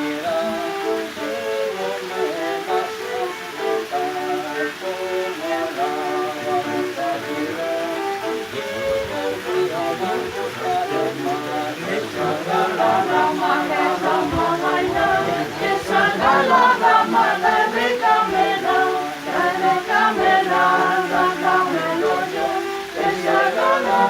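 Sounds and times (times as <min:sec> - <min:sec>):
bowed folk fiddle melody: 0:00.0 - 0:24.0
person singing: 0:00.0 - 0:24.0.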